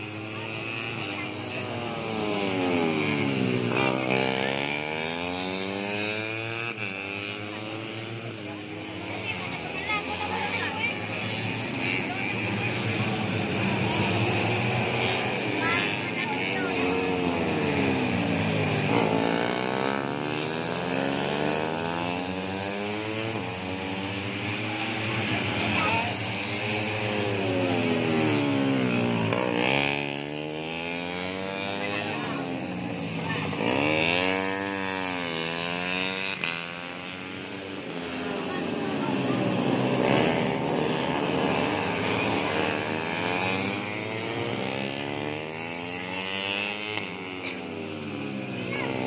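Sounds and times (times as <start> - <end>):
racing motorcycles running hard: 0.0 - 49.0.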